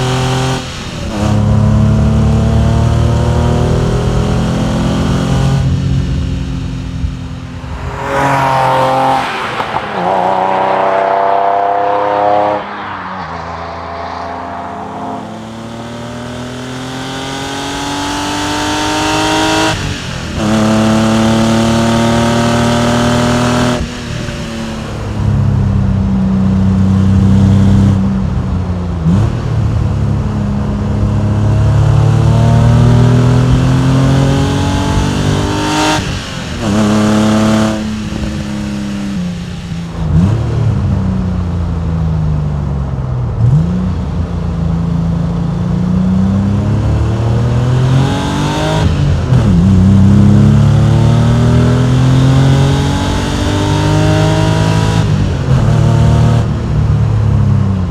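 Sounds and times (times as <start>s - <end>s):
car engine revving hard: 0.0s - 25.6s, 30.8s - 41.1s, 44.9s - 57.2s.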